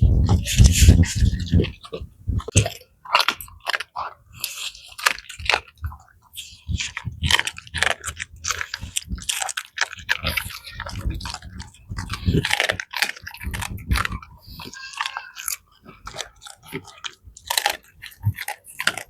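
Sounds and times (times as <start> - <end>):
dog chewing bones: 0.1 - 19.0
bones cracking and crunching: 0.2 - 19.0.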